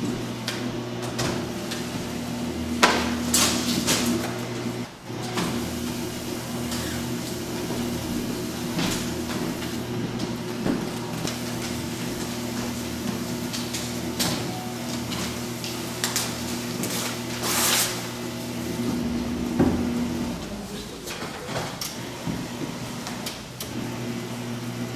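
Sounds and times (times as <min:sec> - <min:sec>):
paper shredder motor hum: 0:00.0 - 0:24.9
shredder crunching and rattling: 0:00.0 - 0:24.9.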